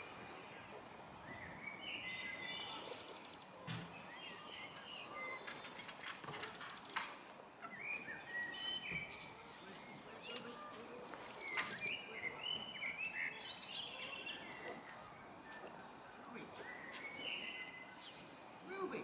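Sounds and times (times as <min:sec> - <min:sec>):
outdoor background hiss: 0:00.0 - 0:19.0
small birds singing: 0:00.0 - 0:19.0.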